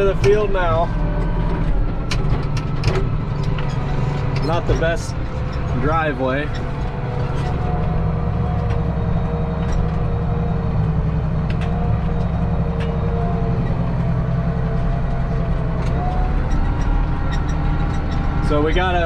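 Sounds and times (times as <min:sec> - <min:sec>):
knocks and rattles: 0:00.0 - 0:19.0
tractor diesel engine running: 0:00.0 - 0:19.0.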